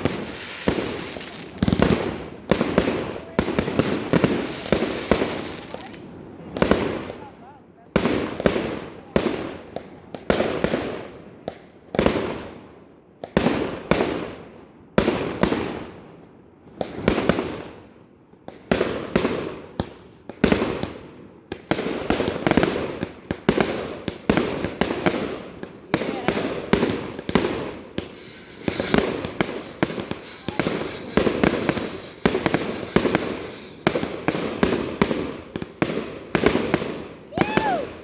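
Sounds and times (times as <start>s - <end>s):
fireworks exploding: 0.0s - 7.3s, 8.0s - 12.6s, 18.5s - 38.0s.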